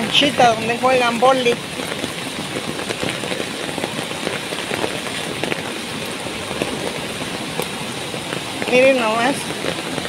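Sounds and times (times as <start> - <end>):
heavy rain on wet ground: 0.0 - 10.0.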